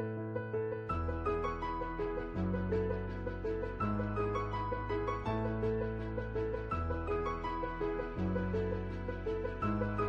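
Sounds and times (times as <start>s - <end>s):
soft piano melody: 0.0s - 10.0s.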